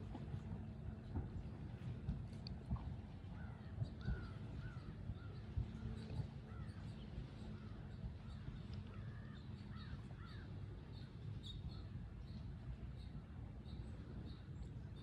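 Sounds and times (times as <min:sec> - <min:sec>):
water: 0:00.0 - 0:15.0.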